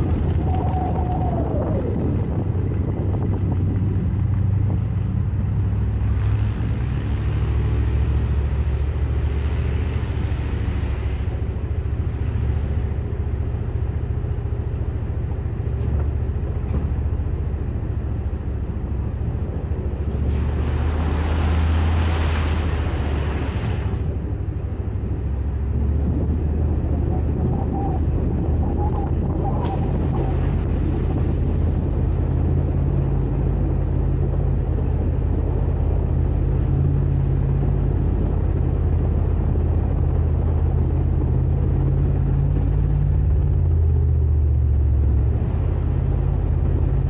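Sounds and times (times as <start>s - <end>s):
pickup engine rumbling: 0.0s - 47.0s.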